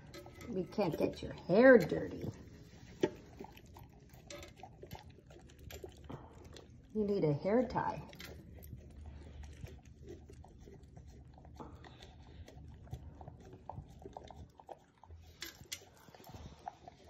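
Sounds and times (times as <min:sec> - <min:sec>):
dog chewing from metal bowl: 0:00.0 - 0:17.0.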